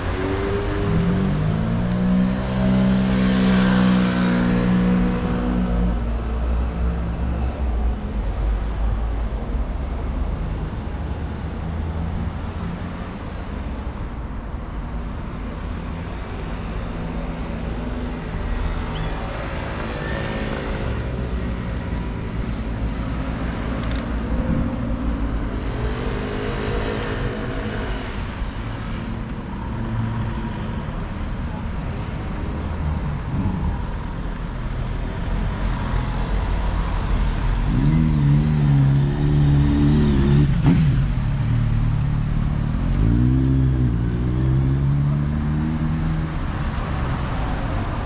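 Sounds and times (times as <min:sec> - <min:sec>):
city street traffic: 0:00.0 - 0:48.0.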